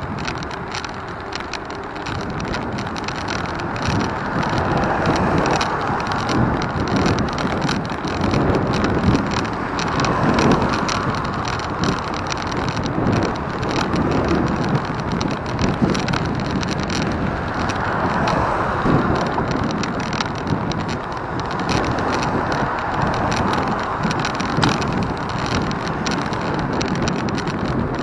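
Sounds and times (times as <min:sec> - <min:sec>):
rushing wind and road noise: 0:00.0 - 0:28.0
small rattles: 0:00.0 - 0:28.0.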